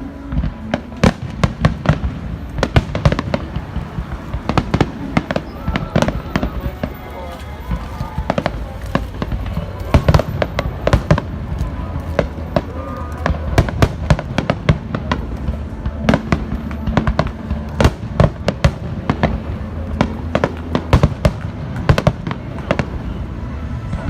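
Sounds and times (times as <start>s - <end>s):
fireworks bursts and crackling bangs: 0.0s - 24.0s.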